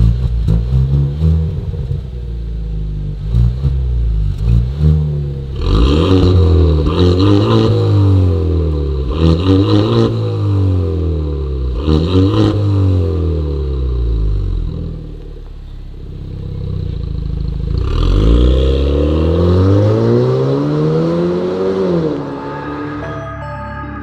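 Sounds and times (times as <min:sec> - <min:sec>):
car engine revving and pulling away: 0:00.0 - 0:15.3, 0:16.1 - 0:23.1.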